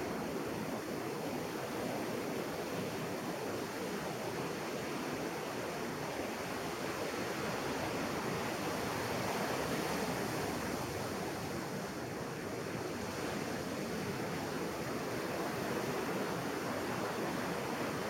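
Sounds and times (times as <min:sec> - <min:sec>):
waves breaking on a beach: 0:00.0 - 0:18.0.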